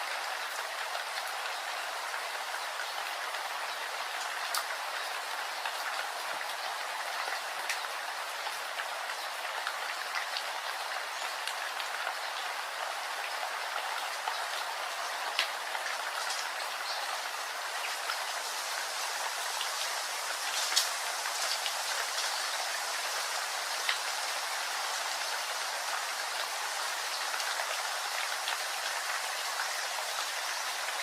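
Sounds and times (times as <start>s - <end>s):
raindrops ticking on a surface: 0.0s - 31.0s
steady rain hissing: 0.0s - 31.0s.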